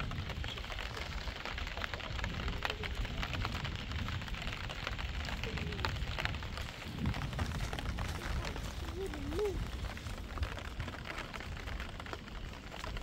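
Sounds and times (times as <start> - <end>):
low rumble: 0.0 - 13.0
rain drops ticking: 0.0 - 13.0
rain hiss: 0.0 - 13.0.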